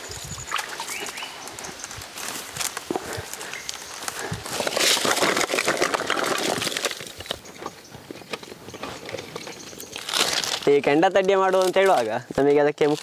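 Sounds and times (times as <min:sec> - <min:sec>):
firewood and coconut shells clattering: 0:00.0 - 0:13.0.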